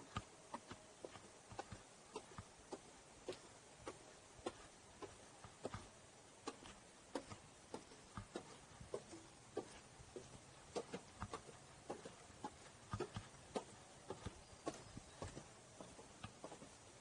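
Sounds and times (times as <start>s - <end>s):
faint background hiss: 0.0s - 17.0s
footsteps on forest trail: 0.0s - 17.0s.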